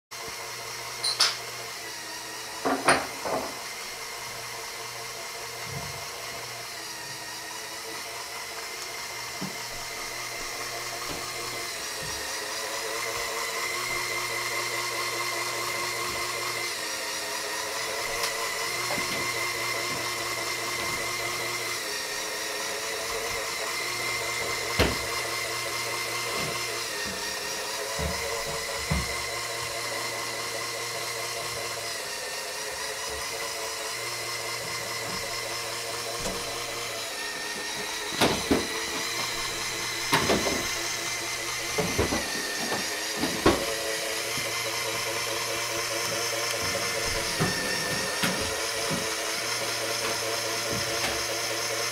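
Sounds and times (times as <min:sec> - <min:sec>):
toy motors and gears whining: 0:00.2 - 0:51.9.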